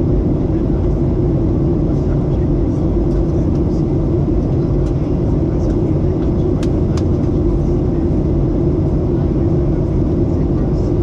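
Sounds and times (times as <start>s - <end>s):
jet engines roaring in cabin: 0.0s - 11.0s.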